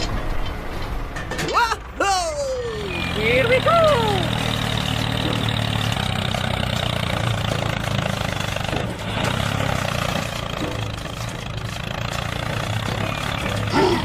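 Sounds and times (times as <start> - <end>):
small tractor motor running: 2.5 - 14.0.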